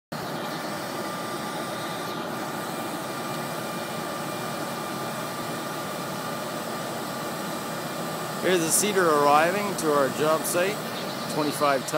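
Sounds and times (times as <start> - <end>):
thin steady whine: 0.1 - 11.9
truck engine running: 0.1 - 11.9.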